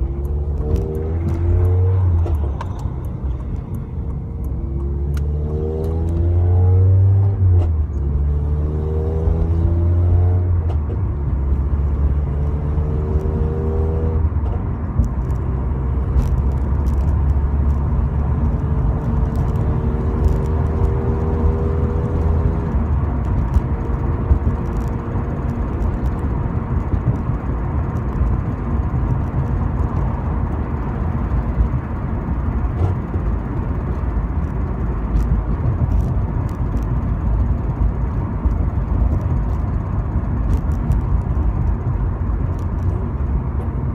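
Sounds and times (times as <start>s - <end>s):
road noise: 0.0s - 43.9s.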